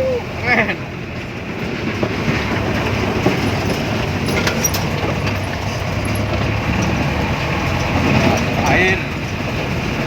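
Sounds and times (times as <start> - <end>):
vehicle engine drone: 0.0 - 10.0
vehicle clicks and knocks: 1.2 - 10.0.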